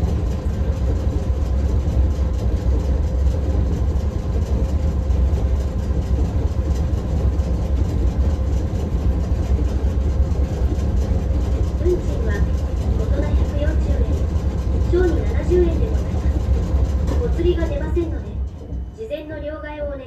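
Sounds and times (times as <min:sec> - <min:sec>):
streetcar low rumble: 0:00.0 - 0:20.0.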